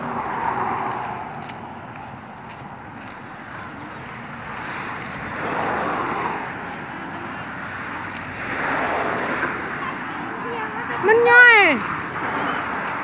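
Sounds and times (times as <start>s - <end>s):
vehicles passing by: 0.0s - 13.0s.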